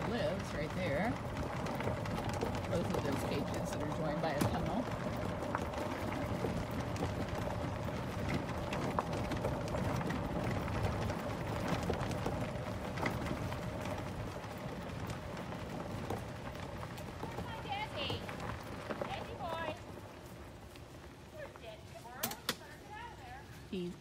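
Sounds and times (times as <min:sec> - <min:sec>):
footsteps on sandy path: 0:00.0 - 0:23.7.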